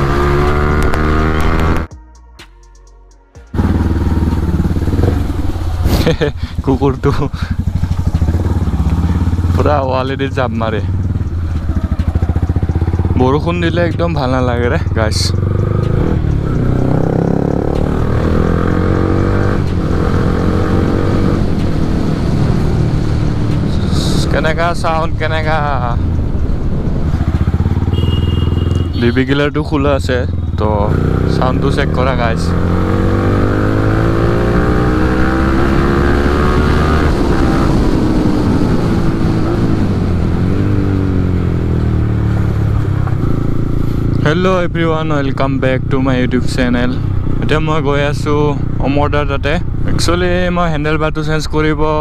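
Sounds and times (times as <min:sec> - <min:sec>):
motorcycle engine running: 0:00.0 - 0:01.9, 0:03.5 - 0:51.0.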